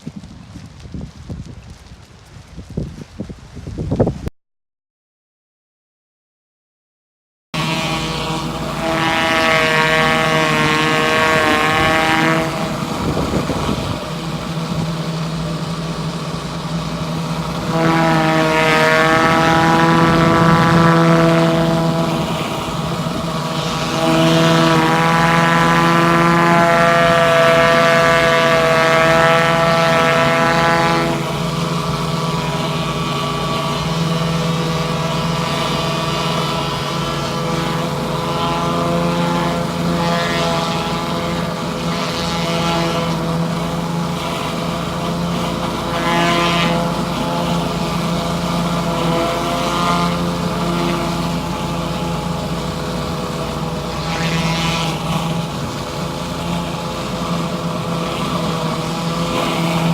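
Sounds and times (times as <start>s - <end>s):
pressure washer engine running: 7.6s - 59.9s.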